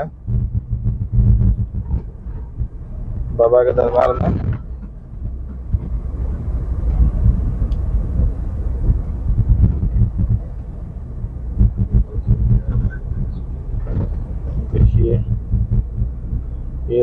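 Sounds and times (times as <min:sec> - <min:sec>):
car cabin rumble: 0:00.0 - 0:17.0
low thumps over bumps: 0:00.0 - 0:17.0.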